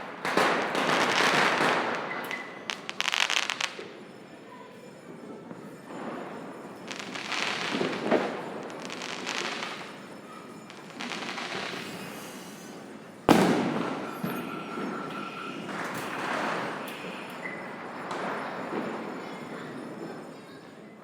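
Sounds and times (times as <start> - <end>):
fireworks crackling: 0.0 - 4.3, 5.6 - 19.4.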